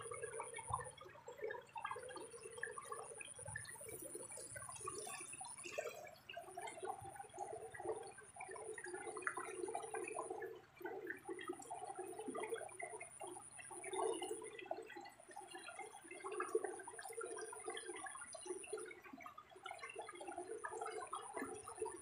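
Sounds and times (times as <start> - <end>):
water gurgling and splashing: 0.0 - 22.0.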